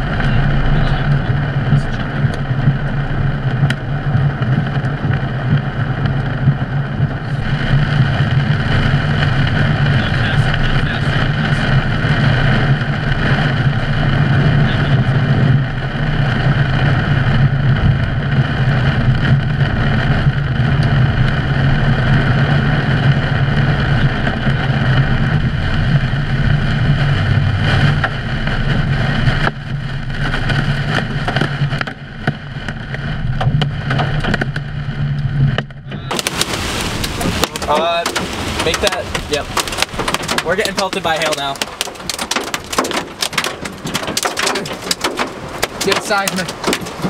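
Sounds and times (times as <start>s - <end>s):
car road noise: 0.0s - 47.0s
heavy rain on car windshield: 0.0s - 47.0s.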